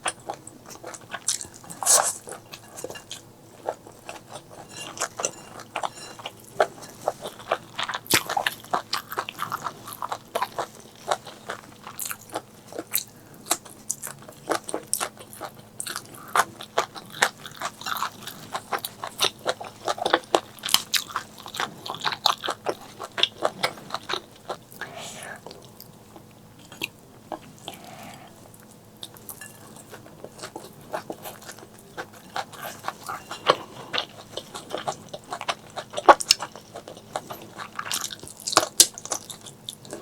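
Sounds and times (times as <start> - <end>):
chewing with wet crunches: 0.0 - 40.0.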